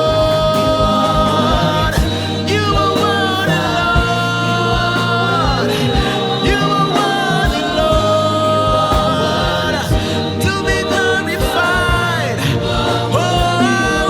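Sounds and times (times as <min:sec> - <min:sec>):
steady drum beat: 0:00.0 - 0:14.0
voices singing gospel melody: 0:00.0 - 0:14.0.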